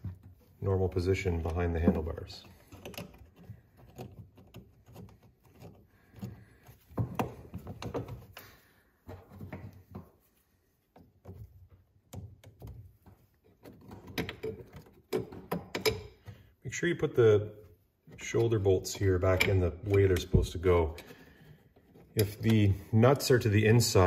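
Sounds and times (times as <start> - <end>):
handling knocks rubs and clicks: 0.0 - 23.7.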